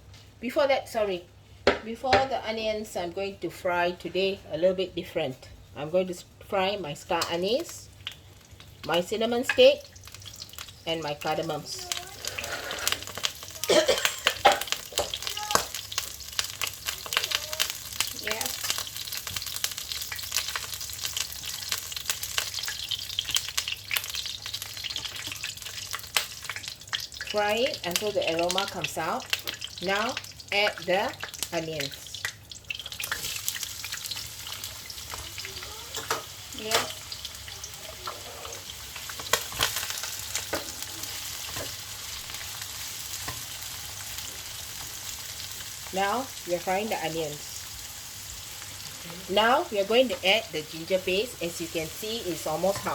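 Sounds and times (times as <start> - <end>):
spices sizzling in hot oil: 6.5 - 52.9.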